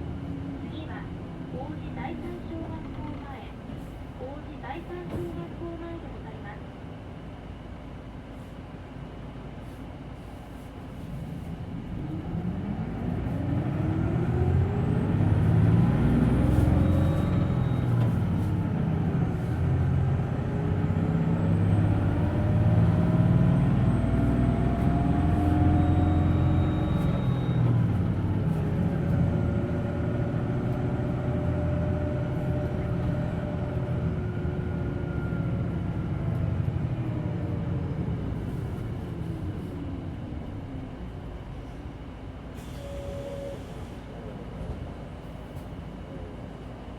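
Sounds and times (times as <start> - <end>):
bus engine whining: 0.0 - 46.9.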